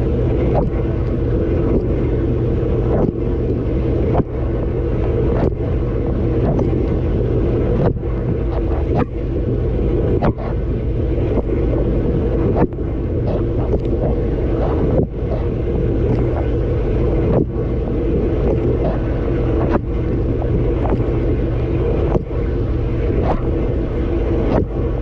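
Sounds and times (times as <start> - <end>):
pump humming: 0.0 - 25.0.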